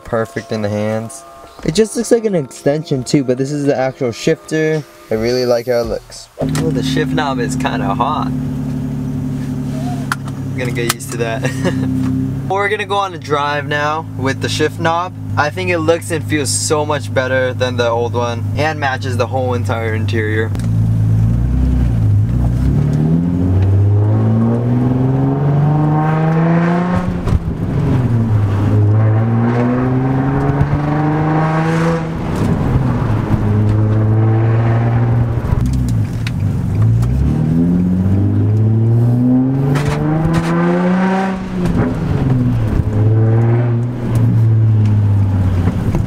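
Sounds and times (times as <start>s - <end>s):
car engine accelerating through gears: 6.4s - 17.6s, 19.6s - 46.0s.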